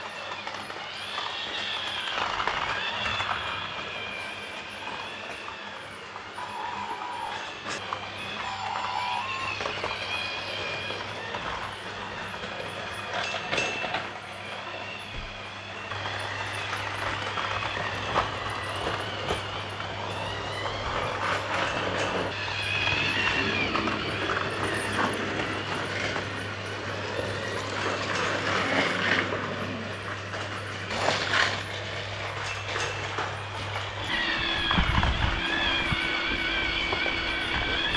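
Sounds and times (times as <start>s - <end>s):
toy train motor hum: 0.0s - 37.9s.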